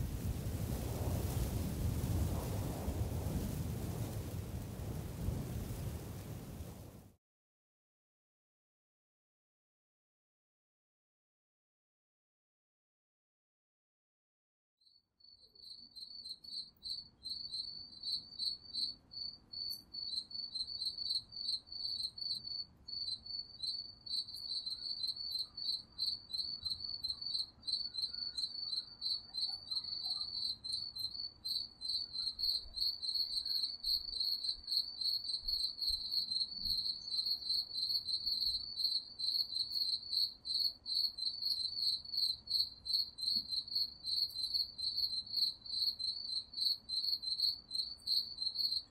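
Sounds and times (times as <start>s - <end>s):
crickets chirping: 0.0s - 7.0s, 15.2s - 48.9s.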